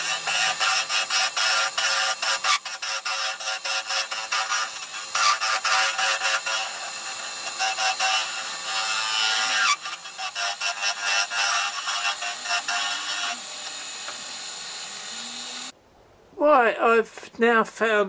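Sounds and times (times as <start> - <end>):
lathe tool scraping wood: 0.0 - 15.7.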